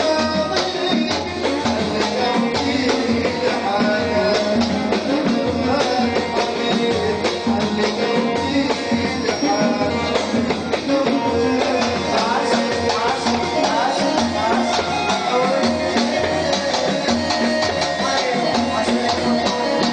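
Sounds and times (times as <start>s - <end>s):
hand percussion: 0.0s - 19.9s
keyboard: 0.0s - 19.9s.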